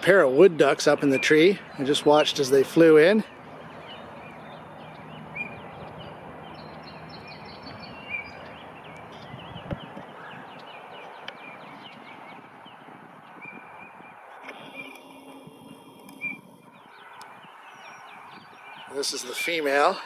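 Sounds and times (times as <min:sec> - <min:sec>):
outdoor background noise: 0:00.0 - 0:20.0
small birds chirping: 0:00.0 - 0:20.0.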